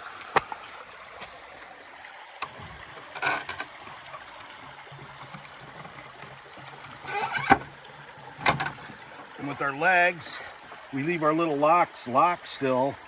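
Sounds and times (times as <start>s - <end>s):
river water running: 0.0s - 13.0s.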